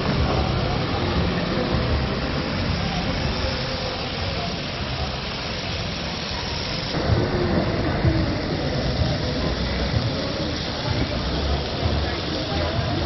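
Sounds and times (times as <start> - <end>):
indistinct crowd voices: 0.0 - 13.0
steady noisy hiss: 0.0 - 13.0.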